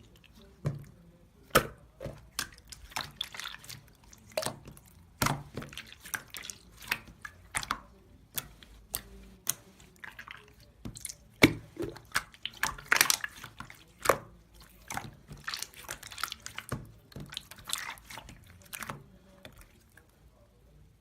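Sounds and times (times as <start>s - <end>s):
wet squishy clicks and crackles: 0.0s - 20.2s.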